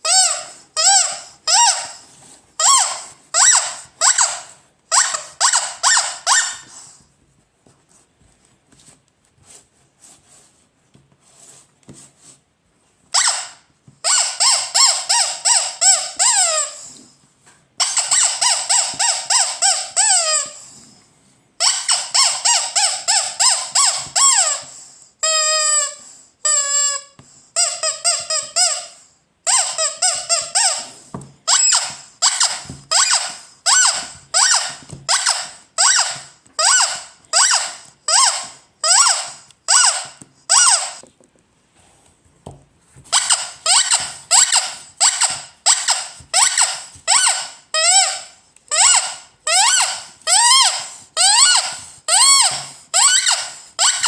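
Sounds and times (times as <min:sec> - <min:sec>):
rubber squeaky toy squeaking: 0:00.0 - 0:07.0, 0:13.1 - 0:17.0, 0:17.8 - 0:20.8, 0:21.6 - 0:41.0, 0:43.0 - 0:54.0.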